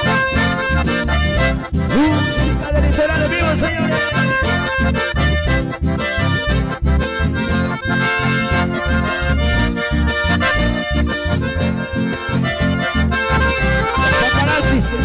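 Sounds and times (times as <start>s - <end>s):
accordion chords: 0.0s - 15.0s
pulsing bass line: 0.0s - 15.0s.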